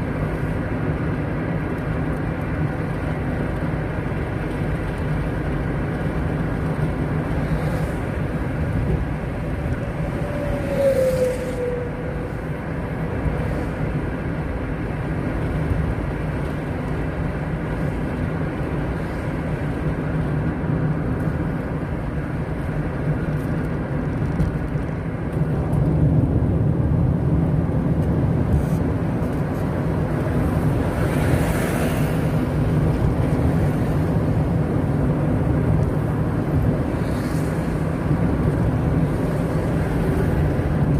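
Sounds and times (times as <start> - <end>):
car road noise: 0.0 - 40.9.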